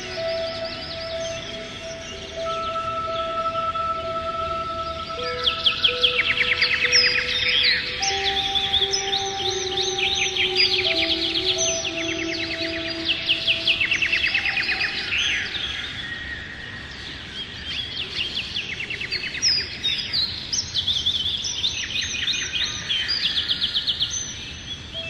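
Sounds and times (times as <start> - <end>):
songbirds singing with trills: 0.0 - 25.0
steady background hiss: 0.0 - 25.0.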